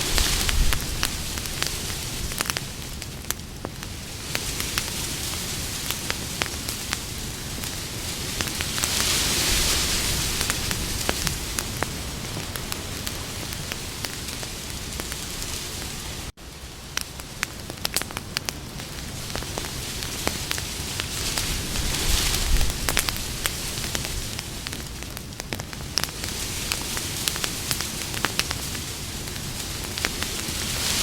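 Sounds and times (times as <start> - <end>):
campfire hissing and popping: 0.0 - 31.0.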